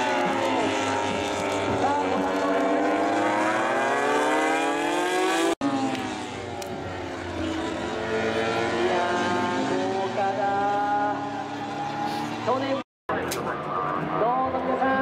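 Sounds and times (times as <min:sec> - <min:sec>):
motorcycle engine at high revs: 0:00.0 - 0:12.8
distant motorcycle engines: 0:00.0 - 0:15.0.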